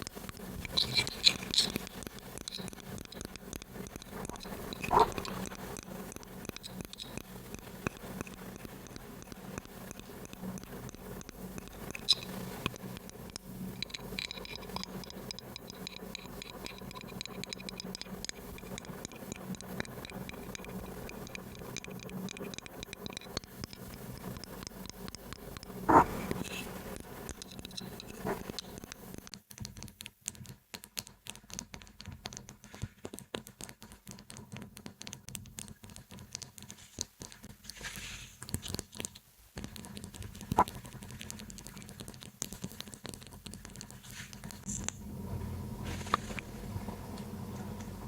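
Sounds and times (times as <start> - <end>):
tapping and scratching on objects: 0.0 - 44.9.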